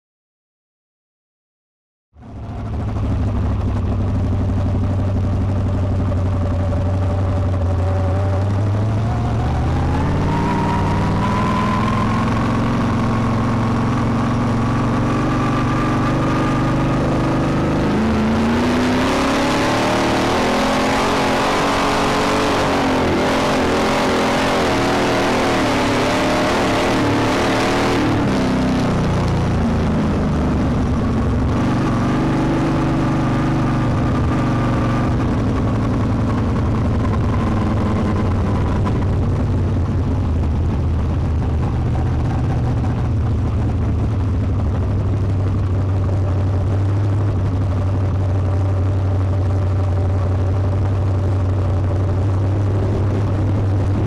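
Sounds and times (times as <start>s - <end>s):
race car engine revving: 5.6s - 45.8s, 50.6s - 54.0s.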